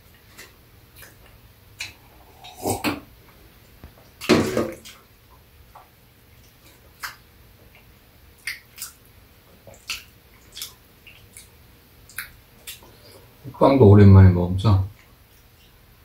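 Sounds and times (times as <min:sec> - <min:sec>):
people chewing with mouth smacks: 0:00.0 - 0:13.4.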